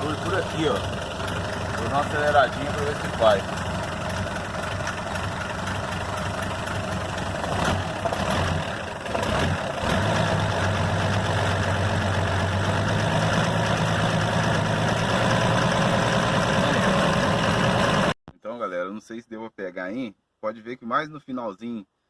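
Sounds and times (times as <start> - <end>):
car engine running: 0.0 - 18.2.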